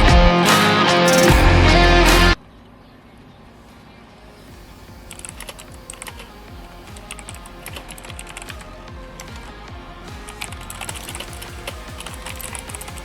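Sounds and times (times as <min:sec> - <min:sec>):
background music: 0:00.0 - 0:02.4, 0:03.9 - 0:13.0.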